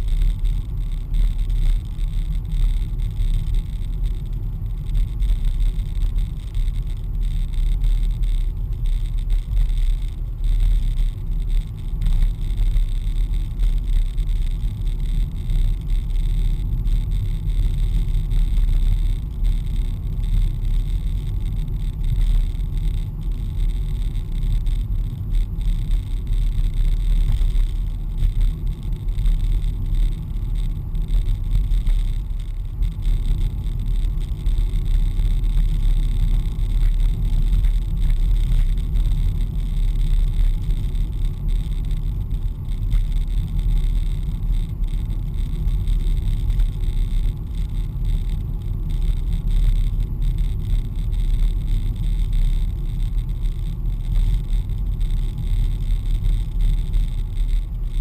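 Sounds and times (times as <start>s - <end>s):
car driving interior rumble: 0.0s - 58.0s.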